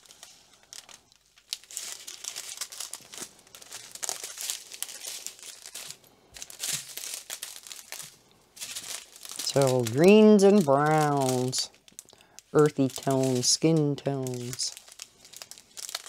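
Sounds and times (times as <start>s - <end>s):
plastic packets crinkling: 0.0s - 16.0s.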